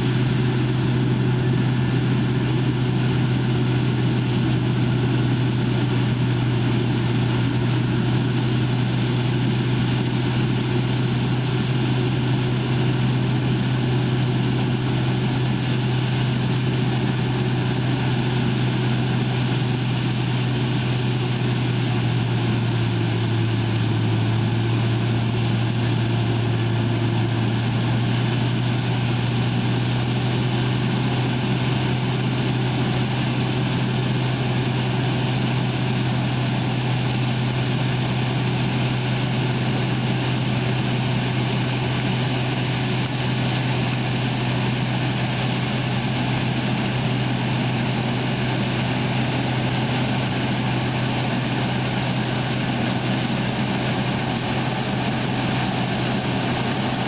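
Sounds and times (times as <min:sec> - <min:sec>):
engine droning: 0:00.0 - 0:57.0.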